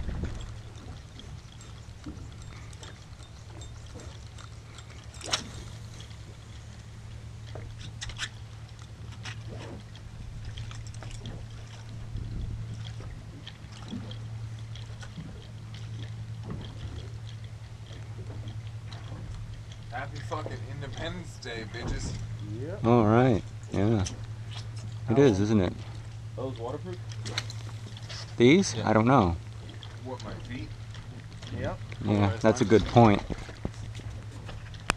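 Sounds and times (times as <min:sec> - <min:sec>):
boat motor humming: 0:00.0 - 0:34.9
faint water wash: 0:00.0 - 0:34.9.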